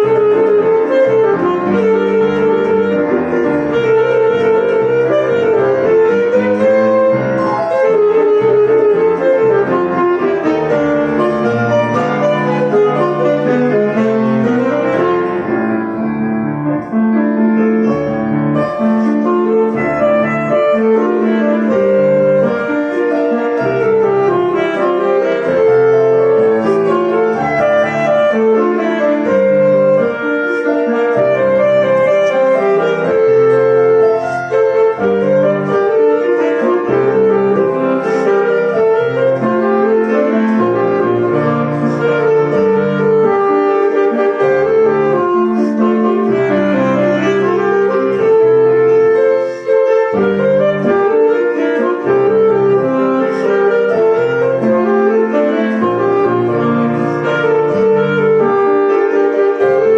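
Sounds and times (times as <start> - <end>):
piano accompaniment: 0.0 - 59.9
wind instrument melody: 0.0 - 59.9.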